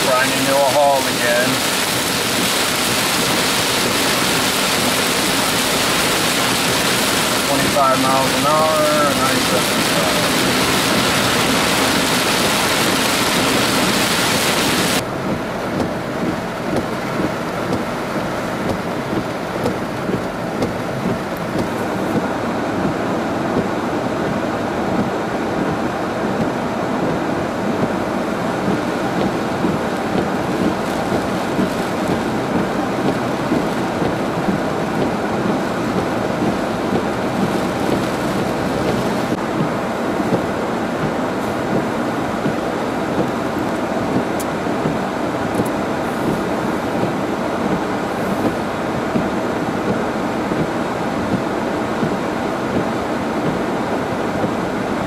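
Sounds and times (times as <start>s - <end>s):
heavy rain on a car: 0.0s - 55.0s
traffic on wet roads: 0.0s - 55.0s.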